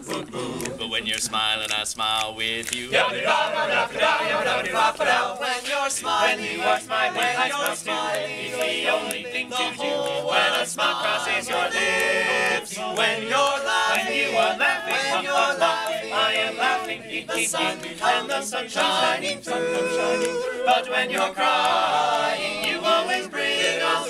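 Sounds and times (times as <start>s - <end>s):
male a cappella group singing: 0.0s - 24.0s.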